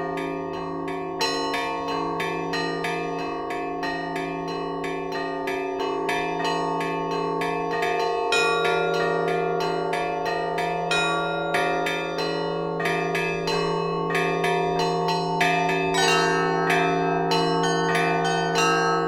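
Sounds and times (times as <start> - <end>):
hum of large bells: 0.0 - 19.0.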